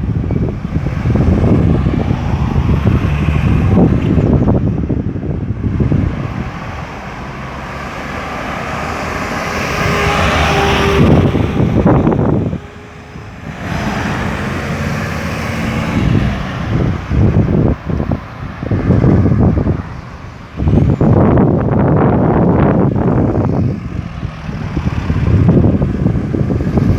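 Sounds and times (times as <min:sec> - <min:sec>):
vehicles passing with engine rumble: 0:00.0 - 0:26.9.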